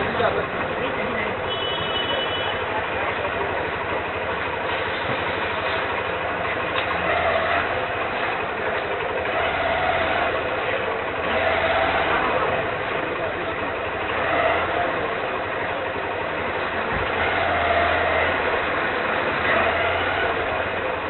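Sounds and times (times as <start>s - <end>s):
crowd noise: 0.0s - 21.0s
motor scooter engines running: 0.0s - 21.0s.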